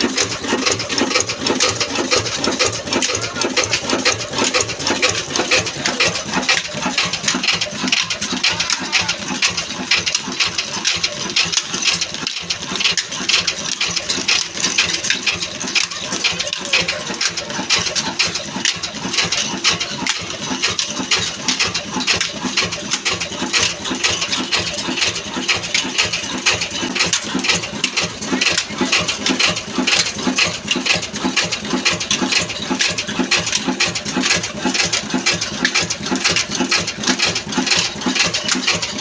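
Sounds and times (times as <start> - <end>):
diesel engine clattering: 0.0 - 39.0.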